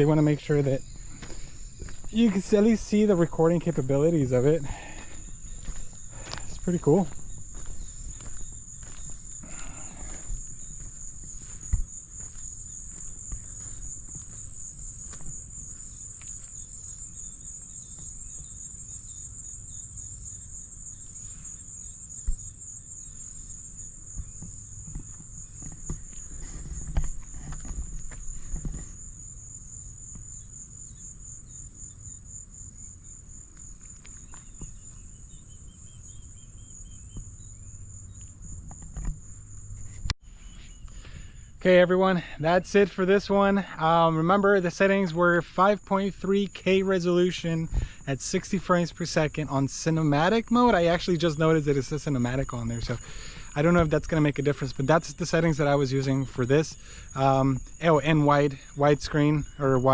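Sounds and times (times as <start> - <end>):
insect chorus trilling: 0.0 - 59.9.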